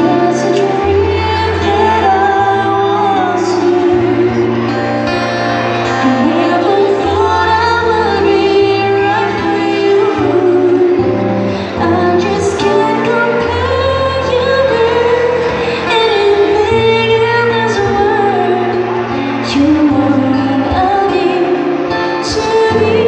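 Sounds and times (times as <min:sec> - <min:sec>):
acoustic guitar: 0:00.0 - 0:23.0
woman singing through speaker: 0:00.0 - 0:23.0.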